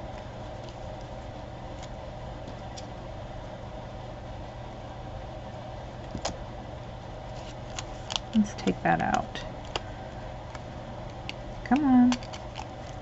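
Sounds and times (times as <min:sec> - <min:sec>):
low appliance hum: 0:00.0 - 0:13.0.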